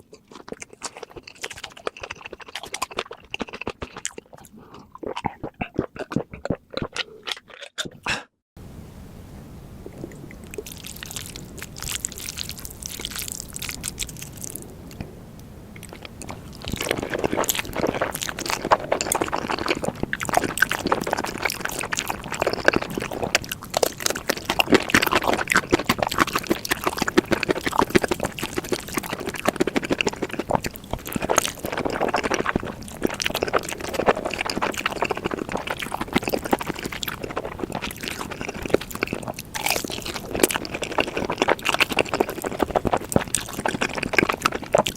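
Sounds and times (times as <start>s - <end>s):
wet chewing and mouth clicks: 0.0s - 8.3s, 9.8s - 44.9s.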